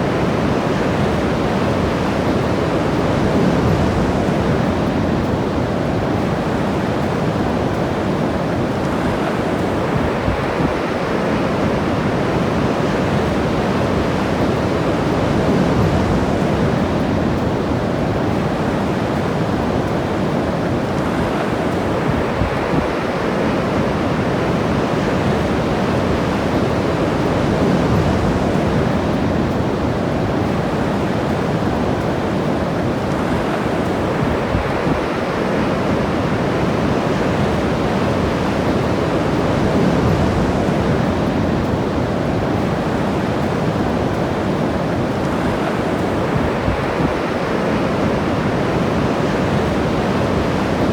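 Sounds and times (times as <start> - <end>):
ocean surf washing ashore: 0.0 - 50.9
wind on microphone: 0.0 - 50.9.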